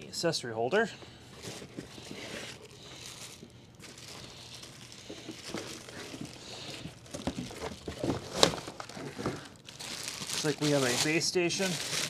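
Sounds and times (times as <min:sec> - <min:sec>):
cardboard and packing rustling: 0:00.8 - 0:12.0.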